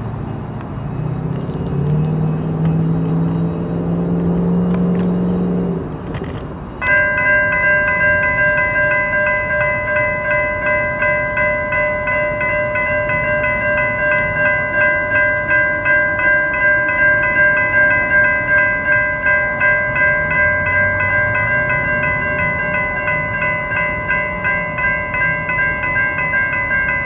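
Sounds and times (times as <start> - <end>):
railroad crossing bells ringing: 0.0 - 27.0.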